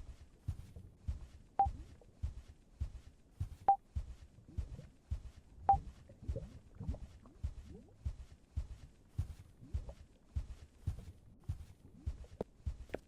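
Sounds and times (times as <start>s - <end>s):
soft low thumps: 0.0s - 13.0s.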